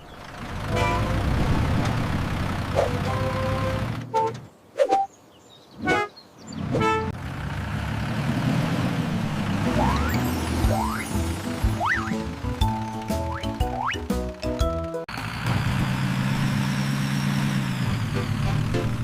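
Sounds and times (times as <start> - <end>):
bus engine rumble: 0.0 - 4.6, 5.8 - 19.0.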